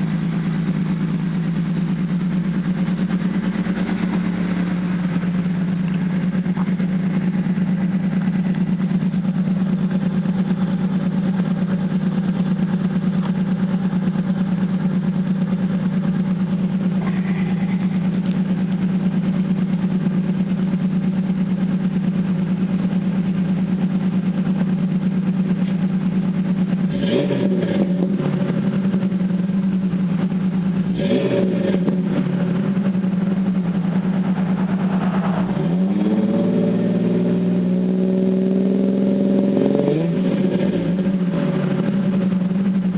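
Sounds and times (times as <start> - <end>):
truck exhaust engine note: 0.0 - 42.9.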